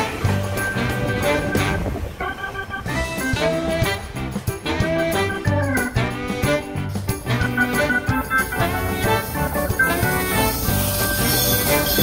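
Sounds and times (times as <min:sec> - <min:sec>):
swing jazz background music: 0:00.0 - 0:12.0.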